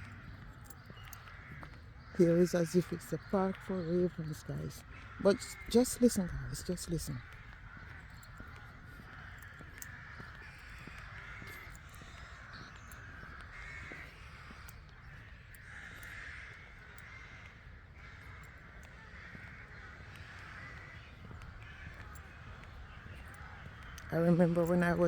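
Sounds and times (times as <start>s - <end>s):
ravens cawing: 0.0s - 25.0s.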